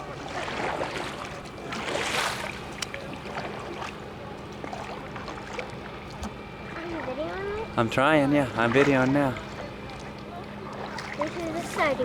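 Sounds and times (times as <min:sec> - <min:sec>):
kayak paddle splashing: 0:00.0 - 0:12.0.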